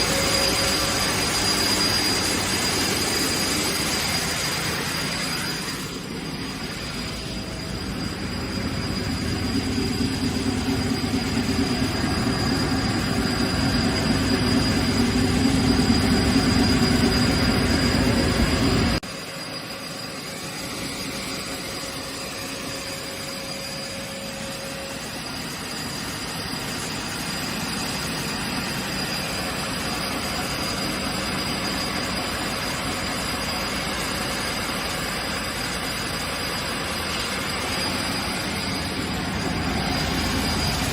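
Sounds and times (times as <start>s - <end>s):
woodworking machine running: 0.0s - 40.9s.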